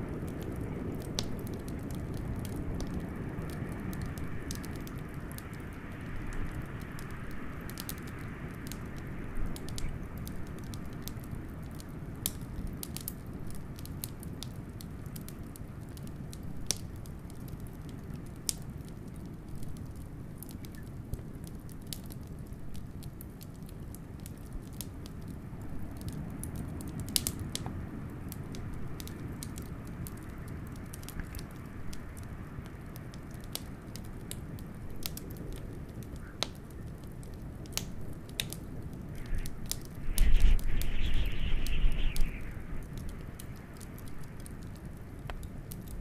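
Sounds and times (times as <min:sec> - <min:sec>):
low rumble of wind: 0:00.0 - 0:46.0
wood fire crackling: 0:00.0 - 0:46.0.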